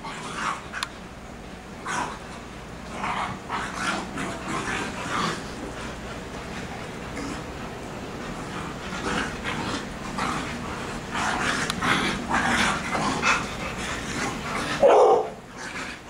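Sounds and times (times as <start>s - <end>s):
dogs panting and huffing: 2.0s - 16.0s.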